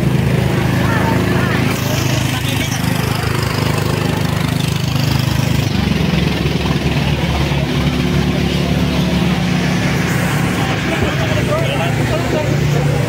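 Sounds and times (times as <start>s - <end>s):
fire truck engine idling: 0.0s - 13.0s.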